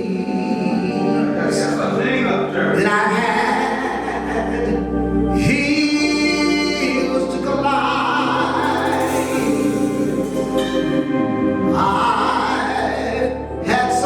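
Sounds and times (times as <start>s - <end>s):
gospel choir singing: 0.0s - 14.0s.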